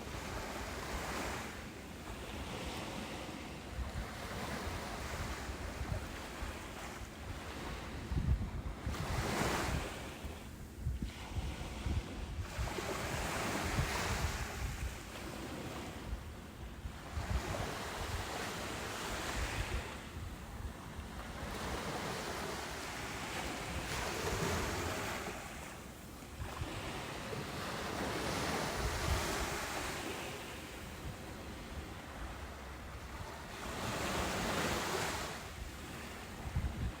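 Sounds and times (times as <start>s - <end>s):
ocean surf breaking on beach: 0.0s - 37.0s.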